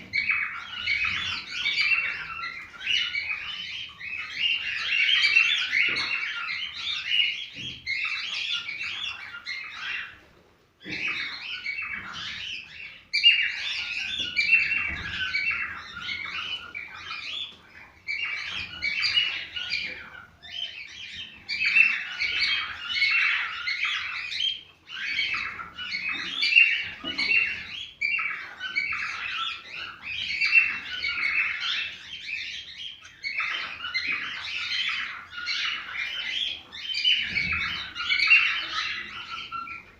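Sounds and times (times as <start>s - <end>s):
cockatiels chirping and whistling: 0.0s - 39.9s.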